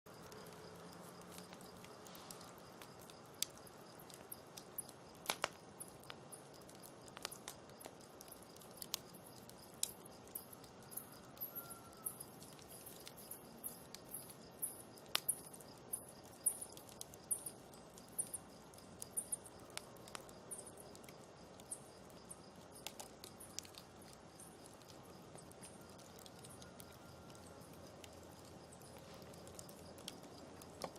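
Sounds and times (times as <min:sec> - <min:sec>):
campfire crackling: 0:00.1 - 0:30.9
crickets chirping: 0:00.1 - 0:30.9
low steady hiss: 0:00.1 - 0:30.9.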